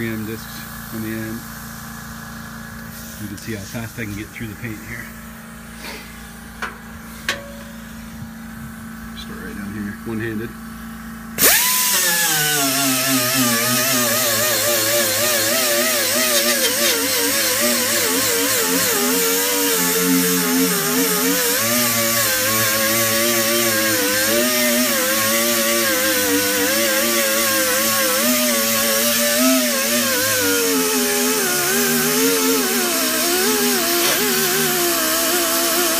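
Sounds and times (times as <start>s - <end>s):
air grinder disc on metal: 0.3s - 10.4s, 11.4s - 35.9s.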